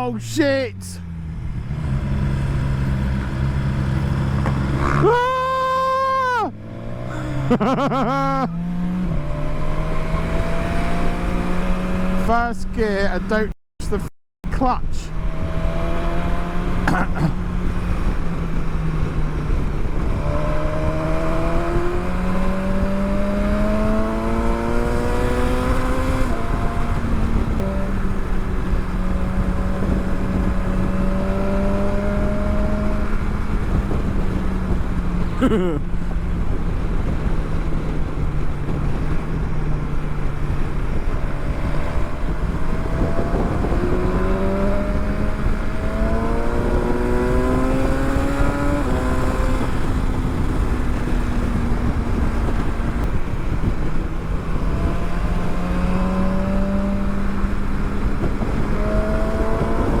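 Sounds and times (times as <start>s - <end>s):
motorcycle engine accelerating: 0.0s - 13.3s, 15.1s - 60.0s
wind and road rumble: 0.0s - 60.0s.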